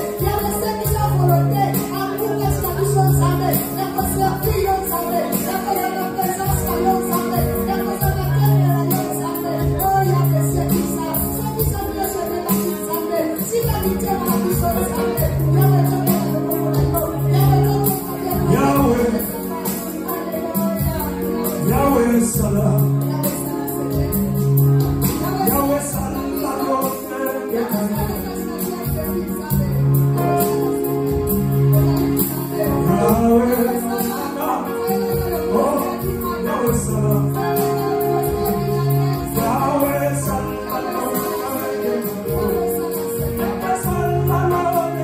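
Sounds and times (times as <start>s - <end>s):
worship music with singing: 0.0s - 45.0s.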